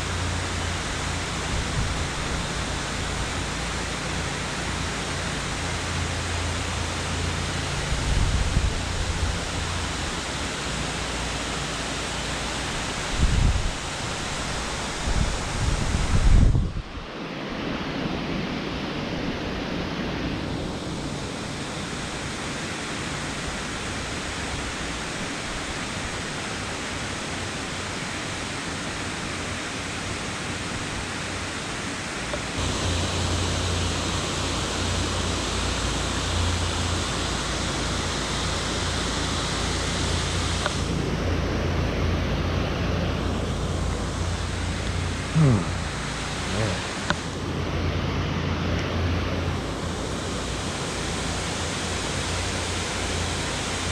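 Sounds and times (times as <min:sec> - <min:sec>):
river water rushing: 0:00.0 - 0:53.9.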